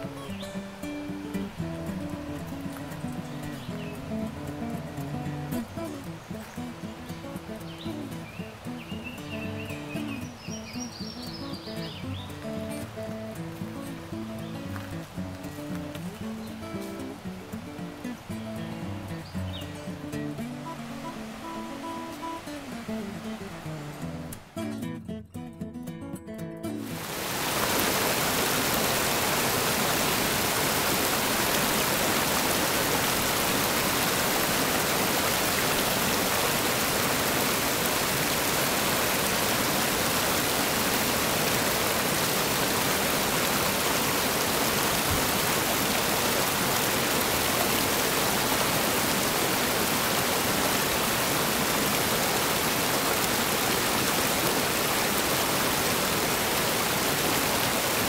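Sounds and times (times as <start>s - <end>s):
rapids rushing over boulders: 0.0s - 24.6s, 26.8s - 58.0s.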